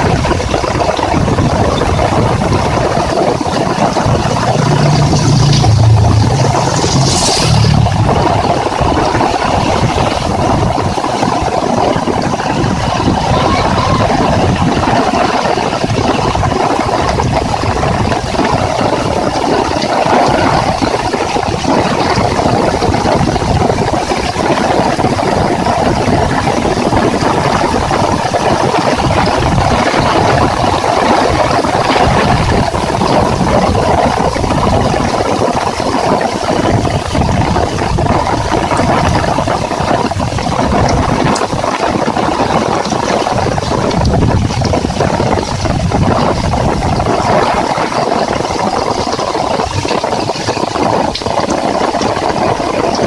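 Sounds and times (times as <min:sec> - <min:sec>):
heavy rain pattering: 0:00.0 - 0:53.0.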